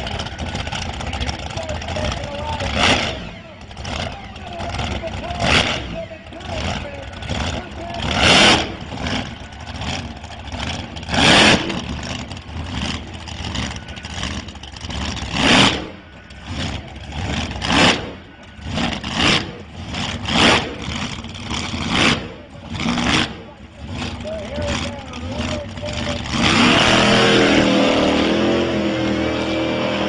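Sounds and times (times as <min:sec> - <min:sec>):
jet engine rumbling: 0:00.0 - 0:30.0.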